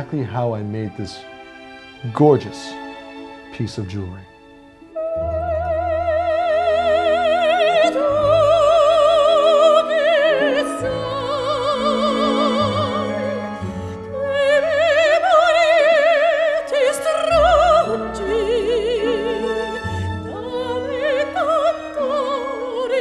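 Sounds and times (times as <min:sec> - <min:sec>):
operatic singing: 0:00.0 - 0:23.0
orchestral music: 0:00.0 - 0:23.0.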